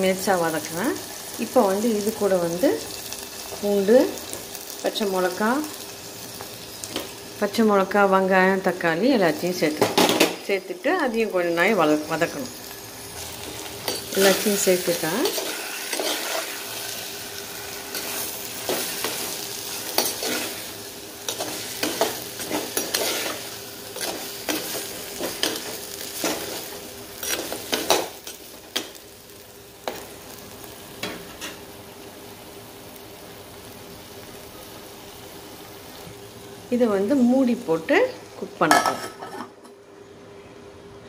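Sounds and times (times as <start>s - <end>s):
oil sizzling: 0.0s - 37.9s.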